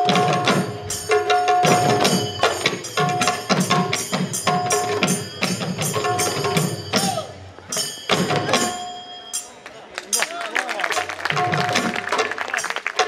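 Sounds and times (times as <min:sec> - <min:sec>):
dhol drums beaten fast: 0:00.0 - 0:09.1, 0:10.8 - 0:13.0.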